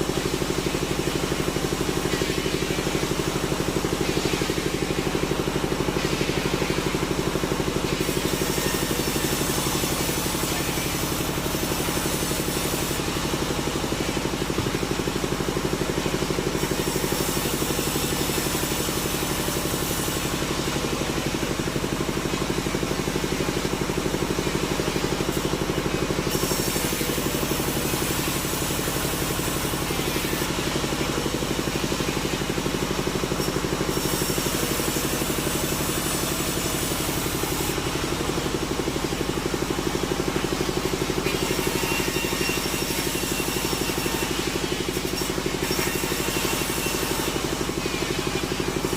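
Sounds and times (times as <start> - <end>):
sawmill engine drone: 0.0 - 48.9
sawmill hiss: 0.0 - 48.9.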